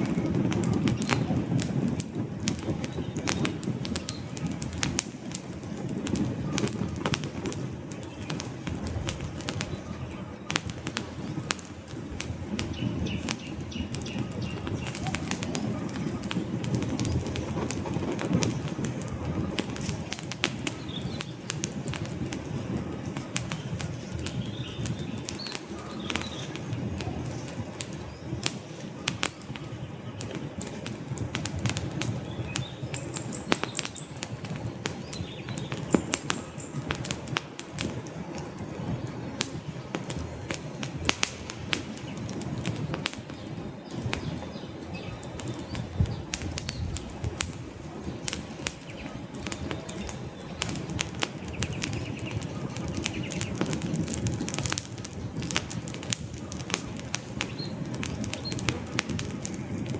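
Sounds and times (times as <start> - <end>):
fluttering rumble of flames: 0.0 - 59.9
logs crackling and popping: 0.0 - 59.9.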